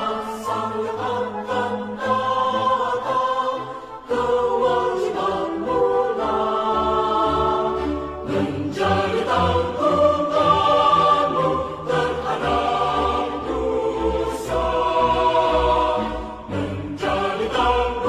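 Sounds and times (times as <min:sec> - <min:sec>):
choir singing held notes: 0:00.0 - 0:18.0.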